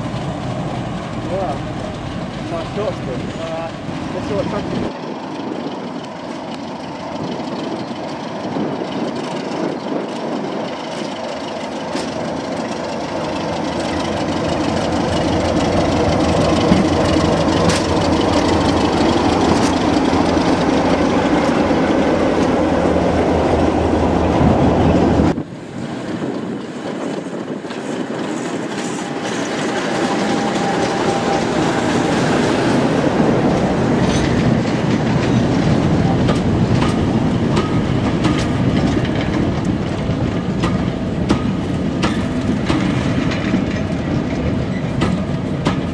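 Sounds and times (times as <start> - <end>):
train wheels clattering over rail joints: 0.0 - 23.6, 26.0 - 45.9
diesel locomotive engine running: 0.0 - 45.9.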